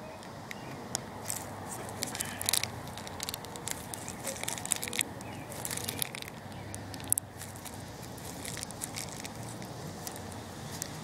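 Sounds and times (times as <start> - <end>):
small metallic clicks and scrapes: 0.5 - 11.0.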